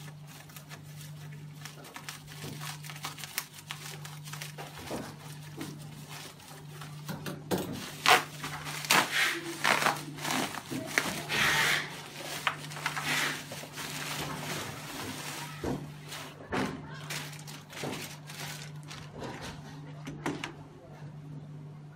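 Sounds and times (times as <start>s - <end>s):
plastic wrapping crinkling: 0.0s - 19.4s.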